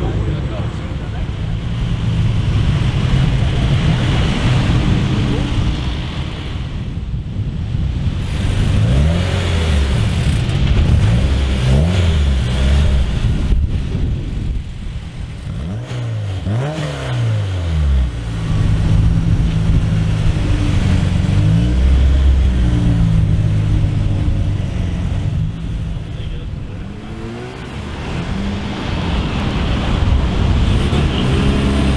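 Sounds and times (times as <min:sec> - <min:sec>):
car engine revving hard: 0:00.0 - 0:06.9, 0:07.9 - 0:13.9, 0:14.8 - 0:31.9.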